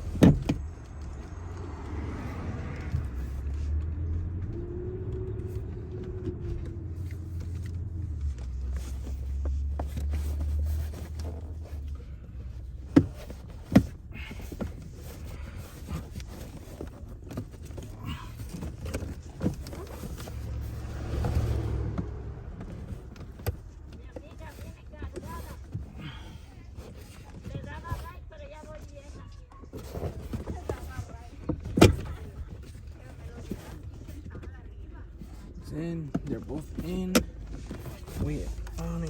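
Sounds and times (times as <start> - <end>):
light knocks and rustles: 0.0 - 39.0.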